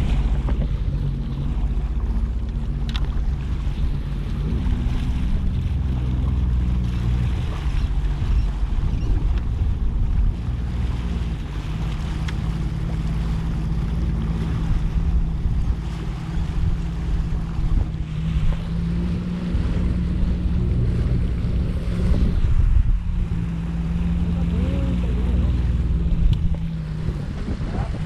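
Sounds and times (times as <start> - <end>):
jet ski engine running: 0.0 - 28.0
water noise: 0.0 - 28.0
wind buffeting microphone: 0.0 - 28.0.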